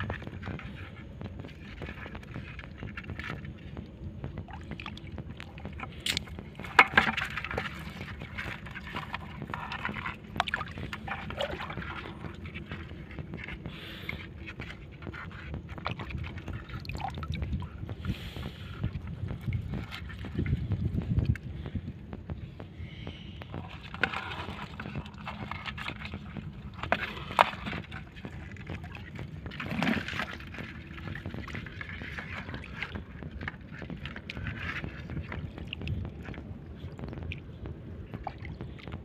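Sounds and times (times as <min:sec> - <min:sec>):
sea water sloshing and splashing: 0:00.0 - 0:39.0
steady low rumble: 0:00.0 - 0:39.0.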